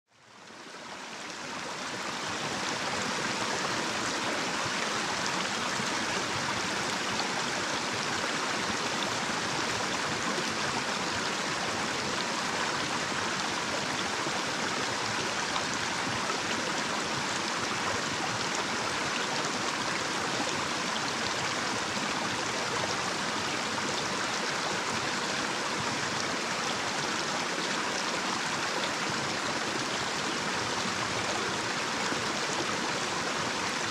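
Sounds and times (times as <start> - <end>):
stream spilling over cascade: 0.2 - 33.9.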